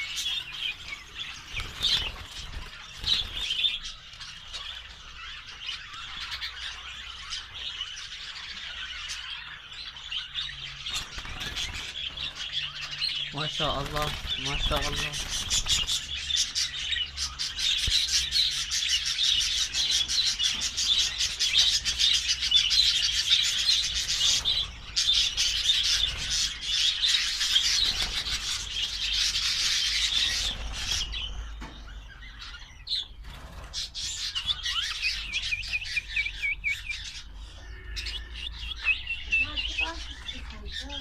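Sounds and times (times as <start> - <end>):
lovebirds chirping: 0.0 - 41.0.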